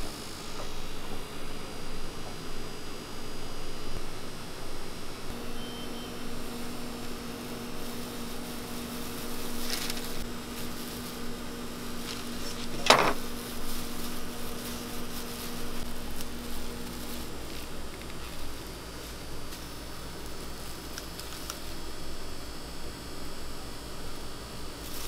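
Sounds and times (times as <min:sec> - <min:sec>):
electric motor hum: 0:00.0 - 0:25.0.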